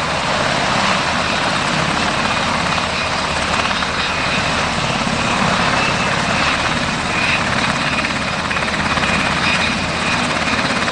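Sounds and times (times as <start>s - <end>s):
helicopter rotor chop: 0.0s - 10.9s
turbine whine: 0.0s - 10.9s.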